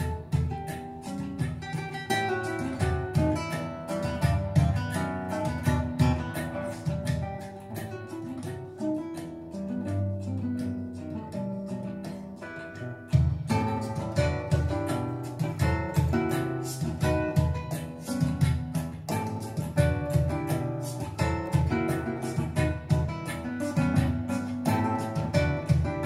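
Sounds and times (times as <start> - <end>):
acoustic guitar music on loudspeakers: 0.0 - 26.0.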